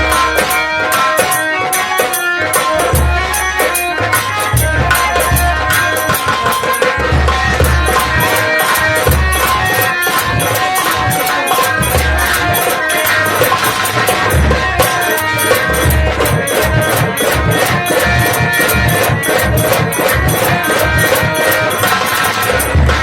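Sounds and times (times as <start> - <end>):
folk music ensemble: 0.0 - 23.0
jingling percussion: 0.0 - 23.0.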